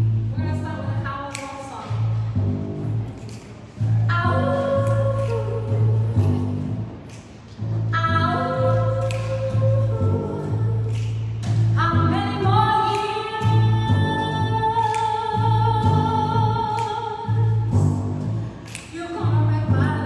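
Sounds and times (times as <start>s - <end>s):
double bass line: 0.0s - 1.3s, 1.9s - 20.0s.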